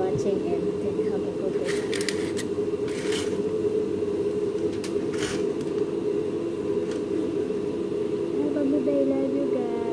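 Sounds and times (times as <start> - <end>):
low mechanical hum: 0.0 - 9.9.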